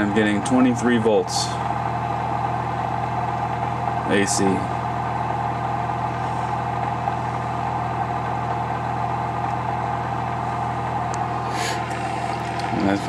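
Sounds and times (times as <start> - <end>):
pulse motor humming and buzzing: 0.0 - 13.0.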